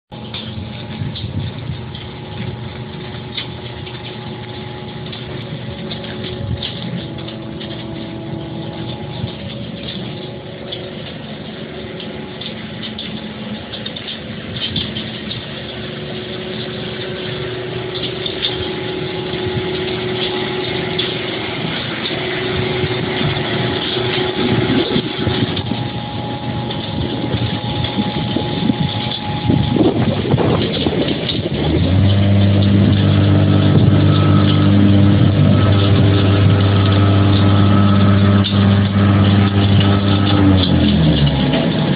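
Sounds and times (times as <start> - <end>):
heavy machinery droning: 0.0 - 41.9.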